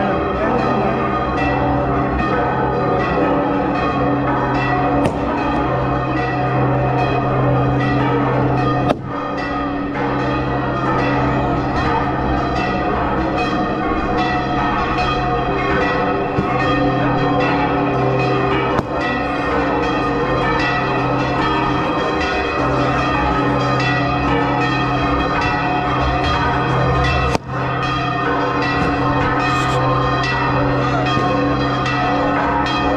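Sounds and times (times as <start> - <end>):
church bells pealing: 0.0 - 32.9.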